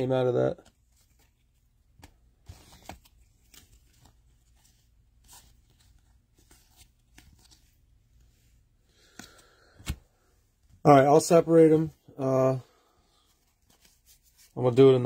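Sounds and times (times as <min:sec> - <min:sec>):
trading cards rustling and sliding: 0:00.5 - 0:11.0, 0:12.6 - 0:14.8.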